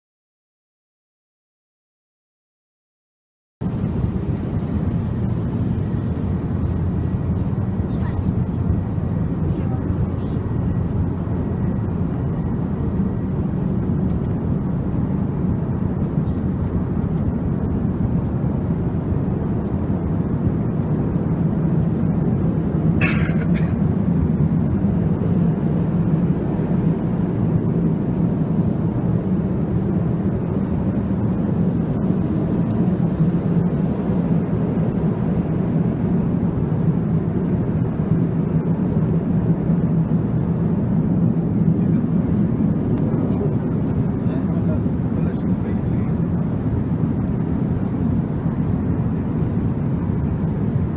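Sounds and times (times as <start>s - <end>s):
airliner cabin roar: 3.6s - 50.9s
low drone: 3.6s - 50.9s.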